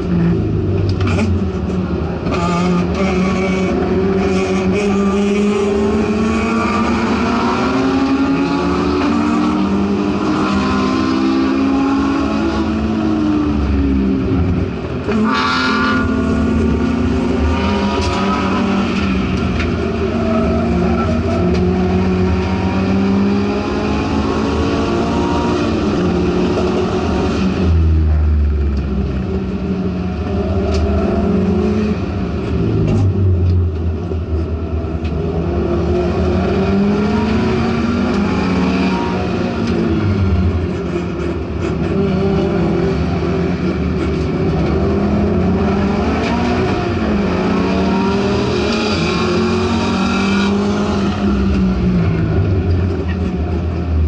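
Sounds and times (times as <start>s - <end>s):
race car engine from inside cabin: 0.0s - 54.0s.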